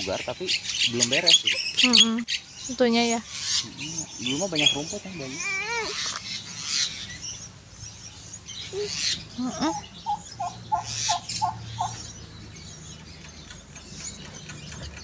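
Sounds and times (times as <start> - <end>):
bird calling: 0.0 - 15.0.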